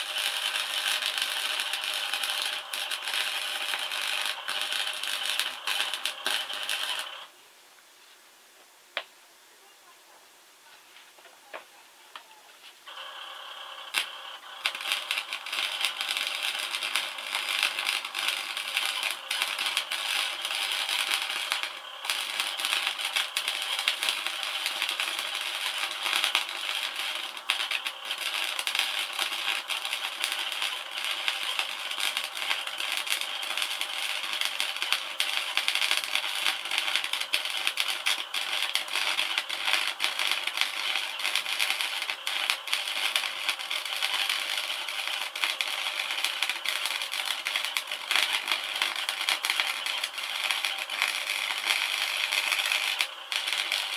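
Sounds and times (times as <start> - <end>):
welding arc crackling: 0.0 - 7.3, 12.9 - 53.9.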